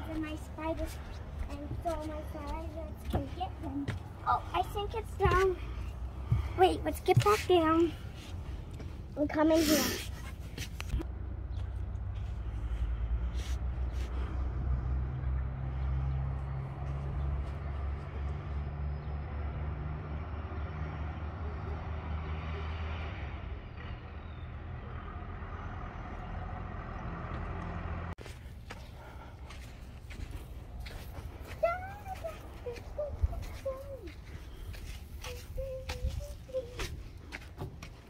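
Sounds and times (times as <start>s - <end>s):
vehicle engine rumble: 0.0s - 38.0s.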